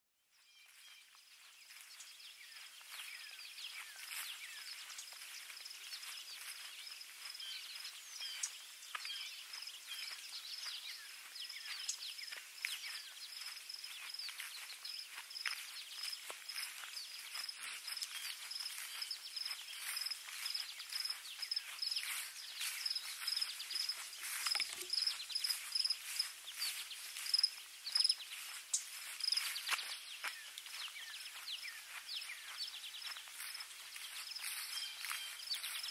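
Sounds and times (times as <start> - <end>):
songbirds chirping and whistling: 0.4 - 35.9.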